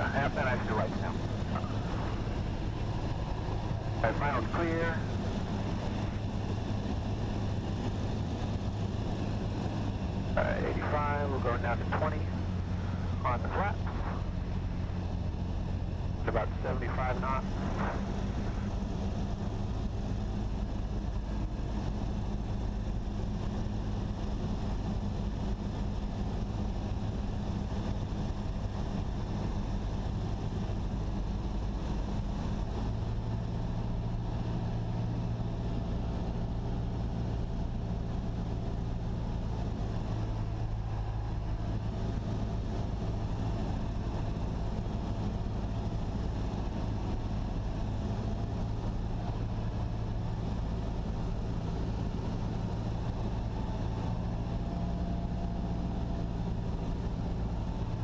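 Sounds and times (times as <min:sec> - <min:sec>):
airplane engine and propeller droning: 0:00.0 - 0:58.0.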